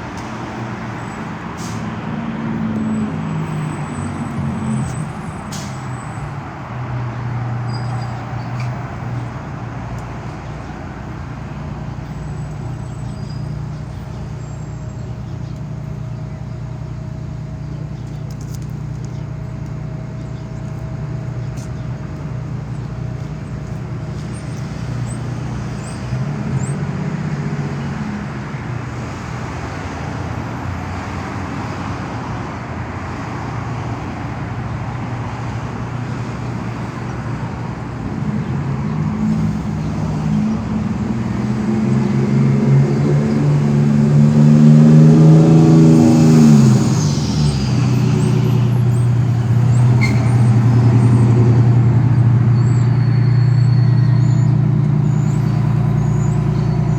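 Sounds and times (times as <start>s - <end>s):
large vehicle engine humming: 0.0s - 56.9s
street traffic: 0.0s - 56.9s.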